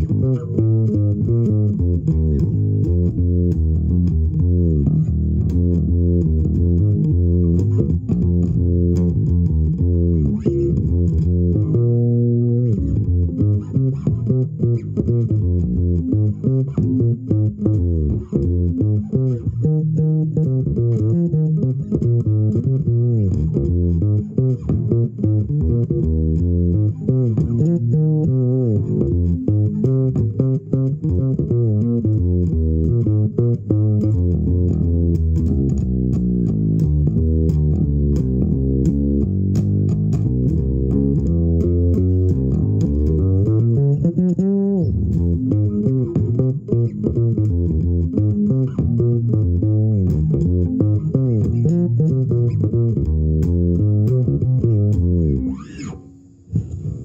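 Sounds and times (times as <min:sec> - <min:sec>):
fretless electric bass playing: 0:00.0 - 0:57.0.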